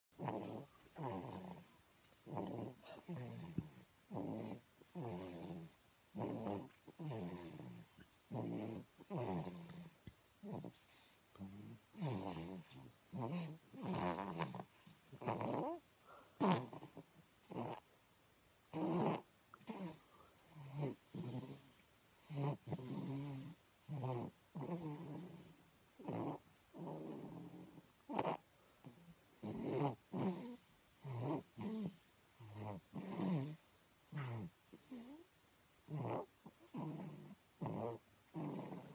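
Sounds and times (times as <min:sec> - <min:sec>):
person snoring: 0:00.2 - 0:01.7, 0:02.3 - 0:17.8, 0:22.3 - 0:35.2, 0:35.9 - 0:38.9.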